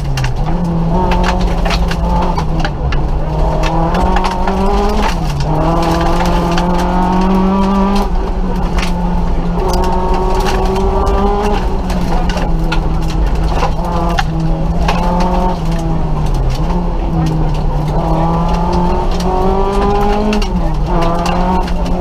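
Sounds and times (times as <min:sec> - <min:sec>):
car engine at high revs: 0:00.0 - 0:22.0
clicks and knocks from car body: 0:00.0 - 0:22.0.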